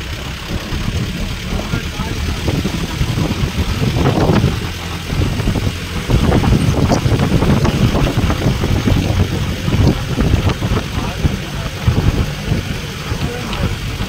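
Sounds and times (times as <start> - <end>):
vehicle engine running: 0.0 - 14.0
wind and road noise: 0.0 - 14.0.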